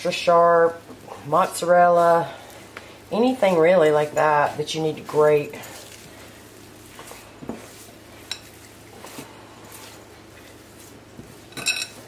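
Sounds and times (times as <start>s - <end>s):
faint steady hum: 0.0s - 12.0s
hands kneading dough: 0.0s - 12.0s.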